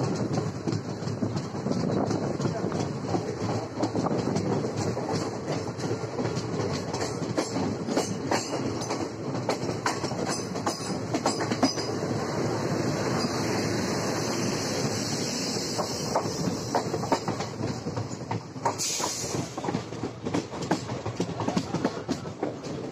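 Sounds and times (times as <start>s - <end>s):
moving train running noise: 0.0s - 22.9s
wheels clacking over rail joints: 0.0s - 22.9s.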